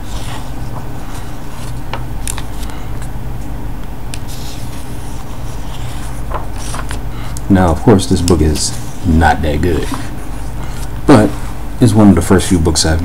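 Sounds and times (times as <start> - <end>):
paper pages rustling: 0.0 - 3.5, 4.1 - 11.6
steady low hum: 0.0 - 13.0.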